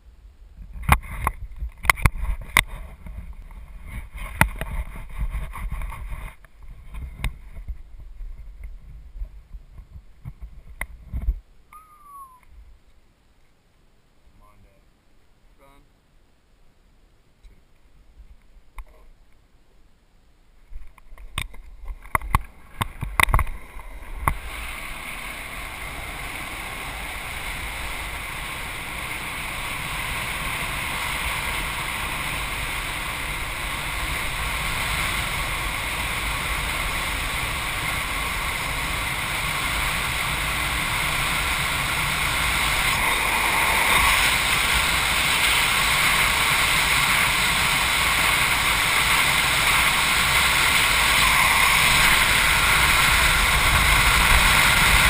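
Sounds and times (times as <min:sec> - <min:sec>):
wind rushing on microphone: 0:00.5 - 0:11.4, 0:20.9 - 0:55.0
wheels roaring on asphalt: 0:00.8 - 0:11.0, 0:20.9 - 0:55.0.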